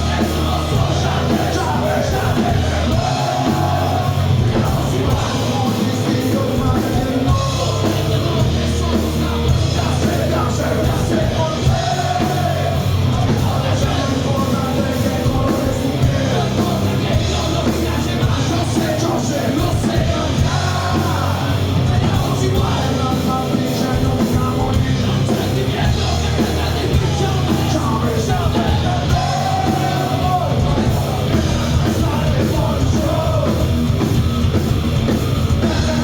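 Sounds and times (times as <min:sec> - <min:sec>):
singer shouting vocals: 0:00.0 - 0:34.0
rock band playing live: 0:00.0 - 0:36.0.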